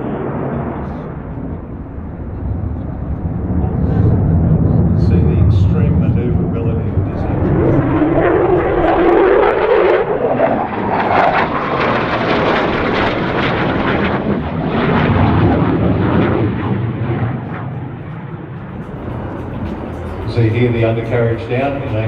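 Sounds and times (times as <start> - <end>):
aircraft flying past: 0.0 - 22.0.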